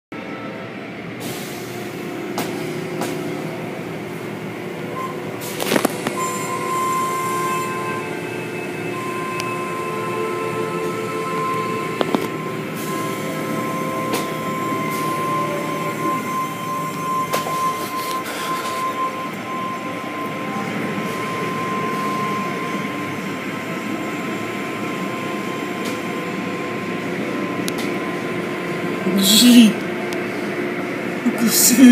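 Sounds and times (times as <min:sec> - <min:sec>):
car wash machinery hum: 0:00.7 - 0:31.8.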